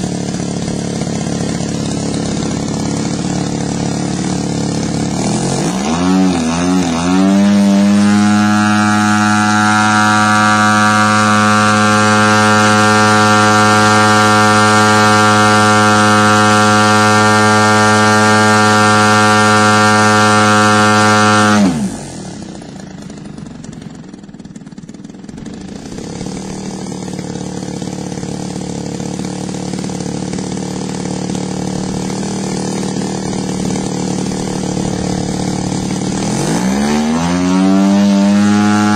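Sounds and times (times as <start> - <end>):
model aircraft engine: 0.0 - 38.9.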